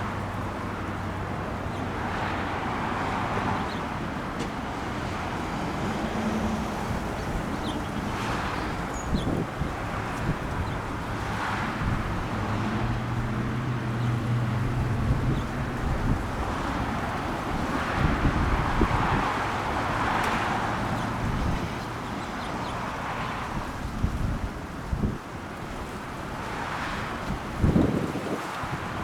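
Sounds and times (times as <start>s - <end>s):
wind buffeting microphone: 4.7s - 29.0s.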